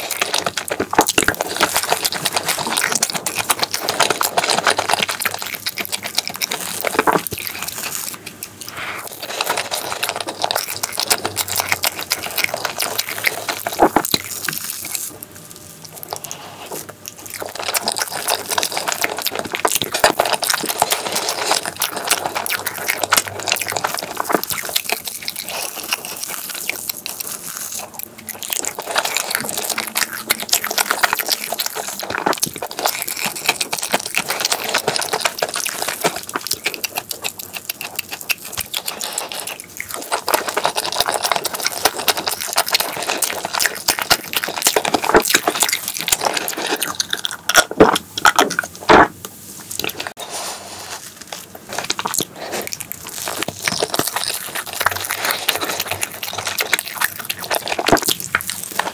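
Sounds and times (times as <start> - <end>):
chewing and mouth sounds: 0.0 - 58.9.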